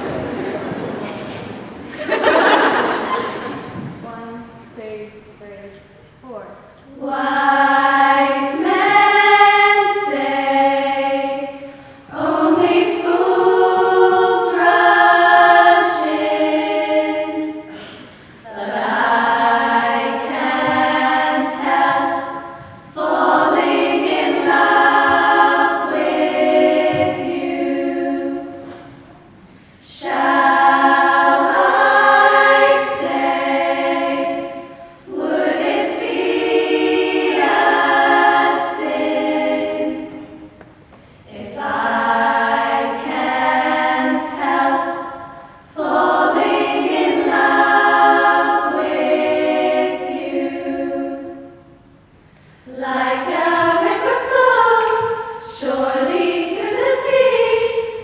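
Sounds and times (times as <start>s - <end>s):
girls' choir singing: 0.0s - 4.5s, 6.9s - 58.0s.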